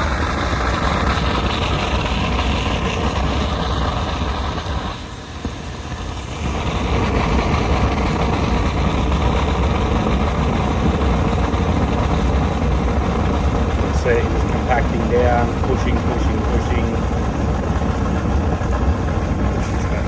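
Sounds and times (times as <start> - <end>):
insulation blowing machine rushing: 0.0 - 20.0.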